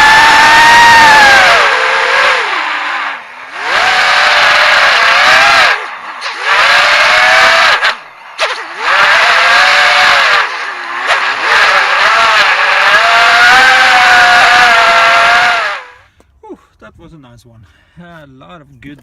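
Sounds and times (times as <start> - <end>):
quadcopter motors whining: 0.0 - 16.1.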